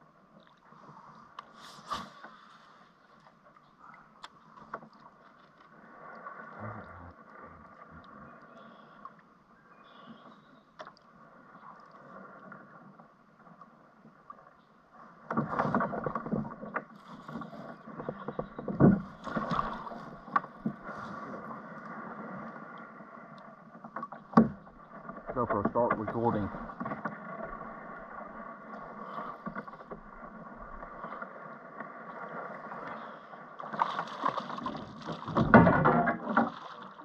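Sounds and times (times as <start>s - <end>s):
water splashing beside kayak: 0.0s - 37.0s.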